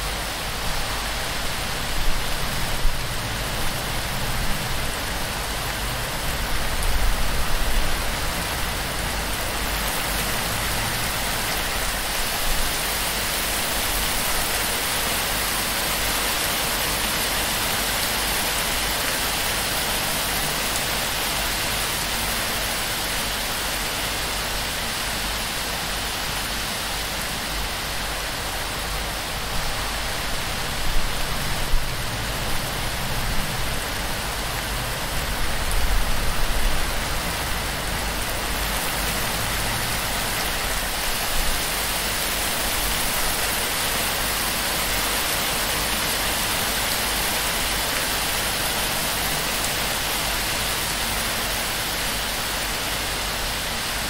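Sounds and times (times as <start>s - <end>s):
heavy rain on thatch roof: 0.0s - 54.0s.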